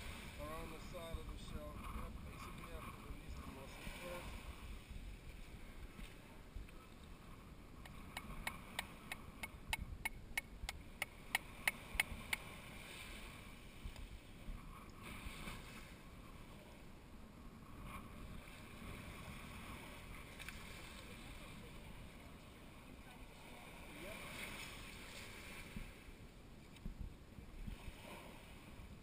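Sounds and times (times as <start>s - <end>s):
wind and surf hiss: 0.0s - 29.0s.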